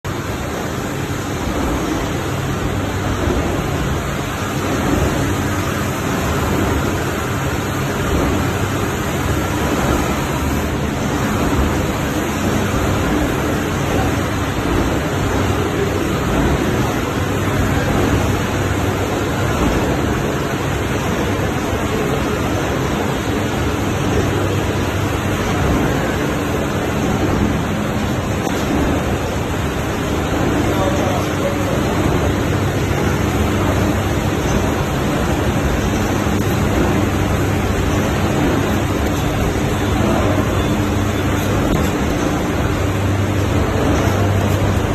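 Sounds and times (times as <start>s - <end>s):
laminating machine running: 0.0s - 44.9s
low machine hum: 0.0s - 44.9s.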